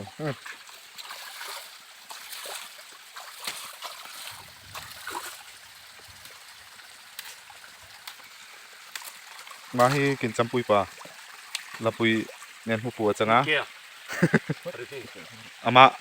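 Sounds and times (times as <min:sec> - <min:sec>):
stream trickling and splashing: 0:00.0 - 0:16.0.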